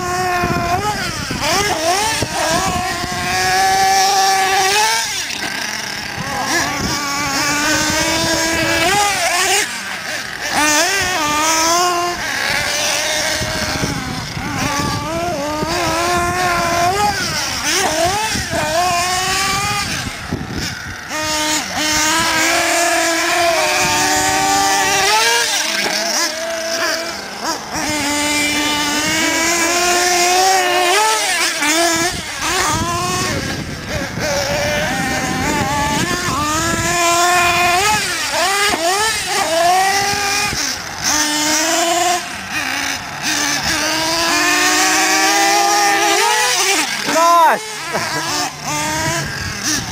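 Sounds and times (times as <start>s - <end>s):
small model engines revving: 0.0s - 49.9s.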